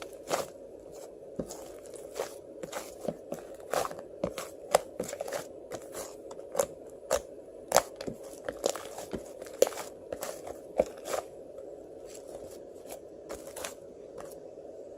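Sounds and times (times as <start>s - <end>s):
ice cream crunching and crackling: 0.0s - 11.4s, 12.0s - 14.4s
faint steady hum: 0.0s - 14.9s.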